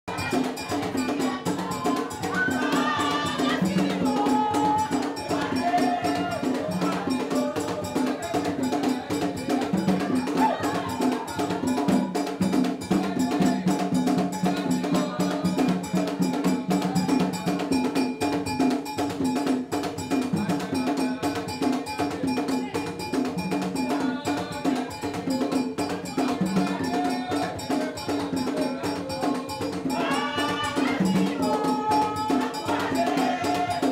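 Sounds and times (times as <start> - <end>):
voices singing: 0.0 - 33.9
fast drum beat: 0.1 - 33.9
ringing cowbell-like stroke: 0.1 - 33.9.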